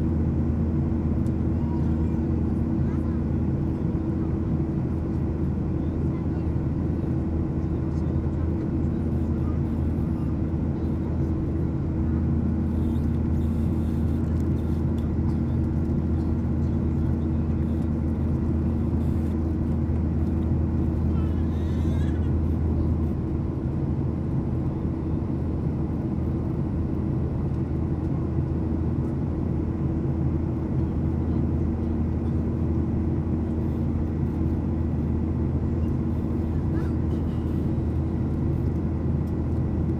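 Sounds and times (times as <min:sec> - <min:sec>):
airflow rush in aircraft cabin: 0:00.0 - 0:39.9
jet engines humming: 0:00.0 - 0:39.9.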